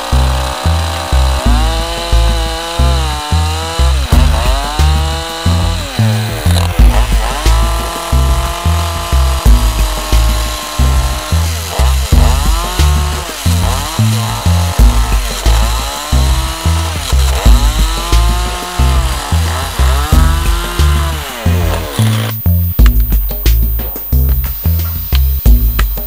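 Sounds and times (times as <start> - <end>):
chainsaw cutting wood: 0.0 - 26.0
music with heavy bass beat: 0.0 - 26.0.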